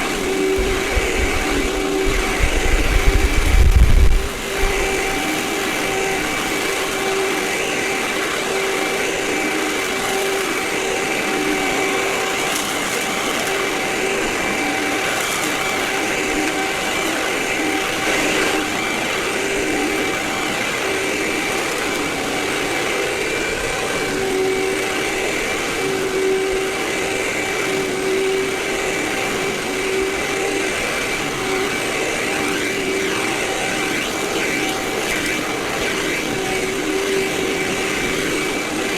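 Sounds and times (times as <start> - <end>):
vacuum cleaner whining: 0.0 - 38.9.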